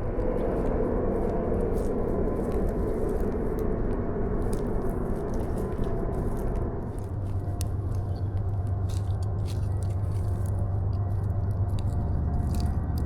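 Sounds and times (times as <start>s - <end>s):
low rumble: 0.0s - 13.0s
campfire crackling and popping: 0.1s - 13.0s.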